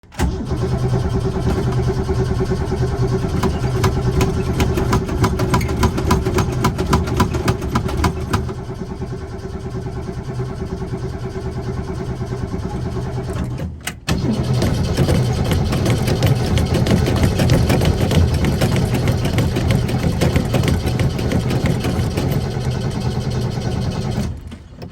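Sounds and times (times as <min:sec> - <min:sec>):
car engine cranking: 0:00.1 - 0:09.1, 0:12.6 - 0:24.9.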